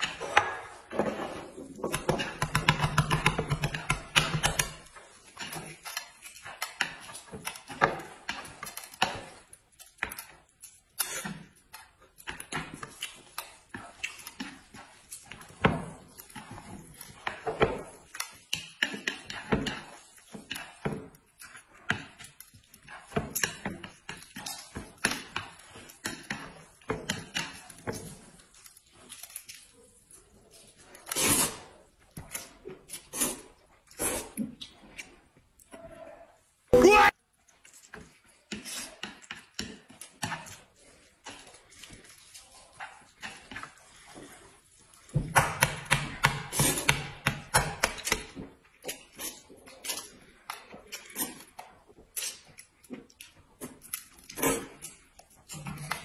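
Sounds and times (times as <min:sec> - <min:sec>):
eggs being cracked and peeled: 0:01.7 - 0:35.7, 0:37.0 - 0:44.2, 0:45.0 - 0:56.0.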